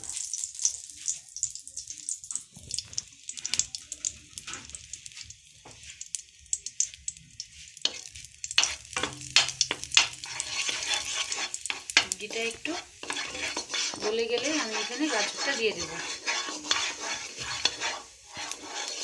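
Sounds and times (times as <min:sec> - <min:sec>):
ghee sizzling and crackling: 0:00.0 - 0:19.0
spatula pushing through ghee: 0:00.0 - 0:19.0.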